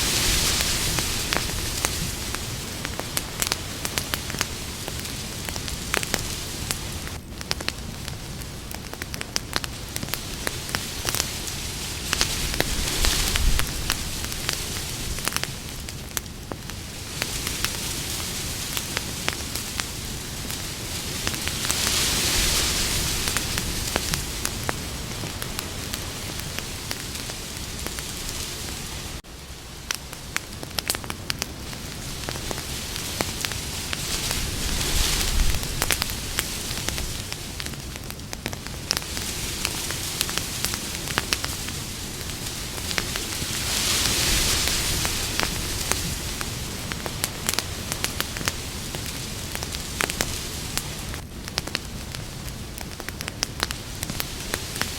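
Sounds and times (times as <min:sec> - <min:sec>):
campfire wood crackling: 0:00.0 - 0:54.9
fire hiss: 0:00.0 - 0:54.9.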